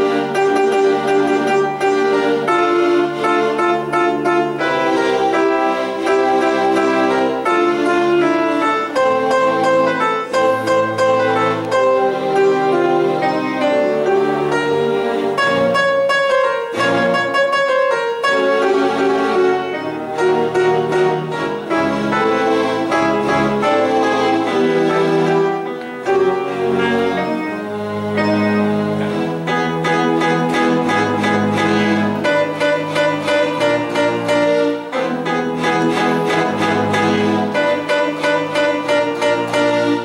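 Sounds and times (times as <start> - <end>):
grand piano playing: 0.0 - 40.0.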